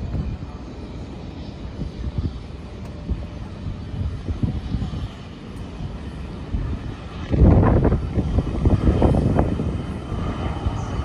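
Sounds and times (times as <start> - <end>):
distant jet engines rumbling: 0.0 - 11.0
wind buffeting microphone: 0.0 - 11.0.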